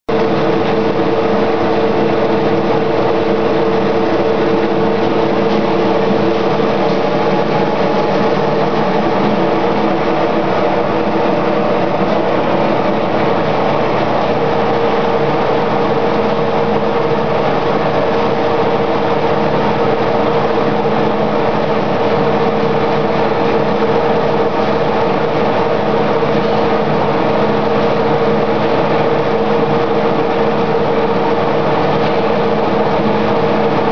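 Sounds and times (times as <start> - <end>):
briquetting press humming: 0.1 - 33.9.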